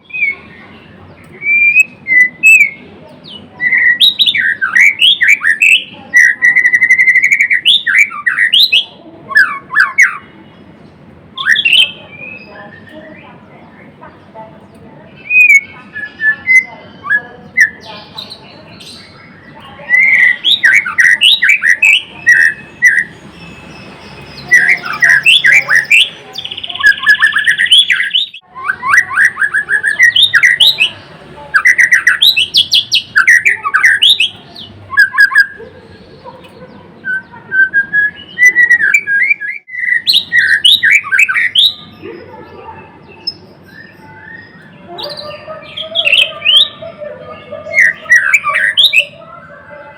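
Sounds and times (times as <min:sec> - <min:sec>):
bird singing whistles and chirps: 0:00.0 - 0:10.3, 0:11.4 - 0:13.2, 0:15.2 - 0:35.6, 0:37.0 - 0:42.2, 0:43.2 - 0:46.8, 0:47.7 - 0:49.2.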